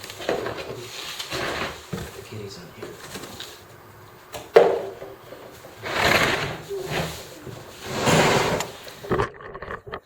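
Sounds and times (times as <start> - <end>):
handling noise rubbing and rustling: 0.0 - 9.3.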